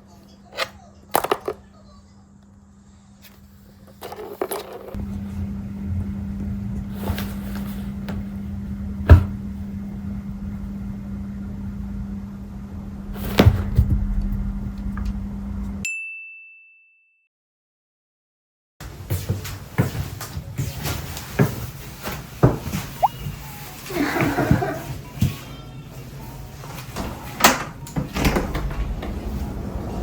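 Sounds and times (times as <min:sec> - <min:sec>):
appliance electrical hum: 0:00.0 - 0:15.8, 0:18.8 - 0:30.0.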